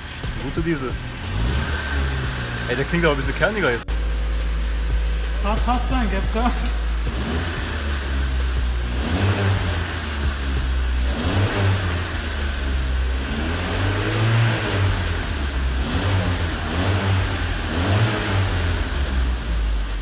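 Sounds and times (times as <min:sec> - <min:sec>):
car engine revving: 0:00.0 - 0:20.0
engine idling: 0:00.0 - 0:20.0.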